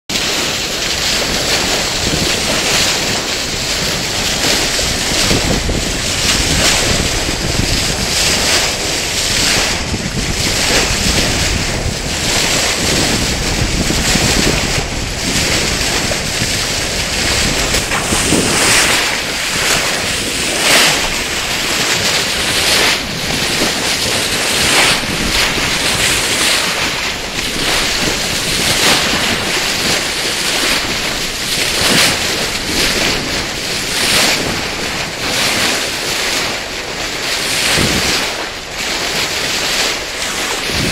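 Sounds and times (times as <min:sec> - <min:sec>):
water rushing along boat hull: 0:00.1 - 0:40.9
wind buffeting microphone: 0:00.2 - 0:40.9.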